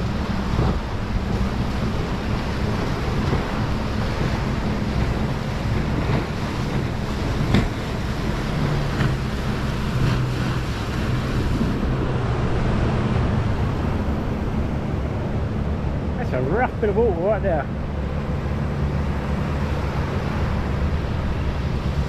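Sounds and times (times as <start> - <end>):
rough water washing on shore: 0.0 - 22.0
wind rumbling on microphone: 0.0 - 22.0.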